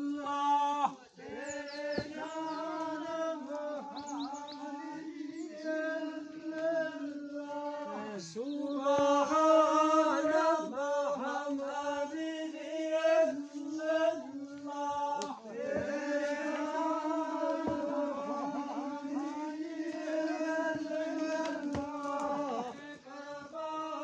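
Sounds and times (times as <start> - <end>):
person chanting a melody: 0.0 - 24.0.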